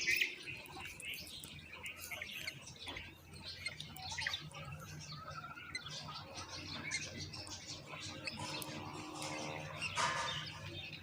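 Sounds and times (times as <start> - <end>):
mynas chirping: 0.0 - 11.0.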